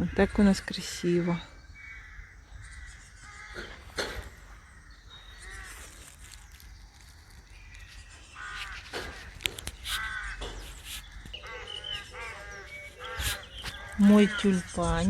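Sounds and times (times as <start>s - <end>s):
crows cawing: 0.0s - 15.0s.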